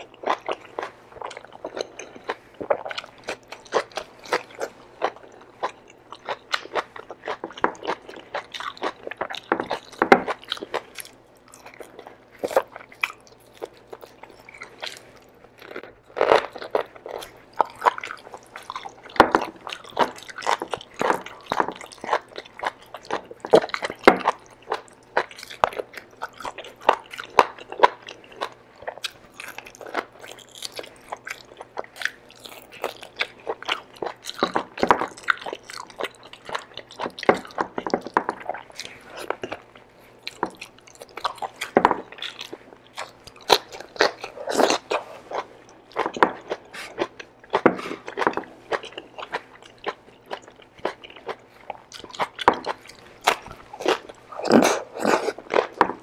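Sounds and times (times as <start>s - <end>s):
close chewing and crunching: 0.0s - 56.0s.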